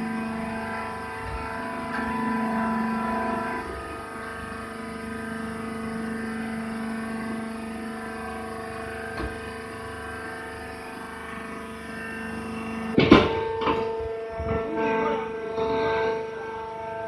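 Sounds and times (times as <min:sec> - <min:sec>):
electric motor and pump humming: 0:00.0 - 0:17.0.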